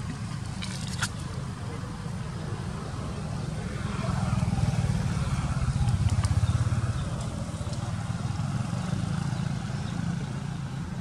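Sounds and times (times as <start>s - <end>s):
engine rumble: 0.0s - 11.0s.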